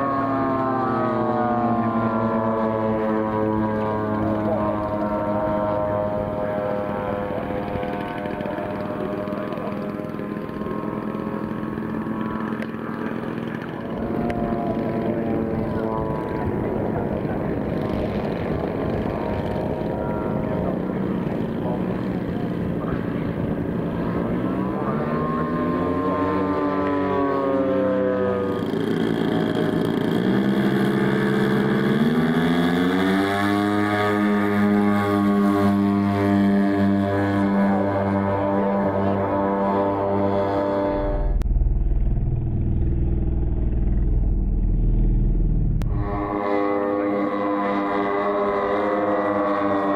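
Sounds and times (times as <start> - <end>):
model airplane propeller drone: 0.0 - 49.9.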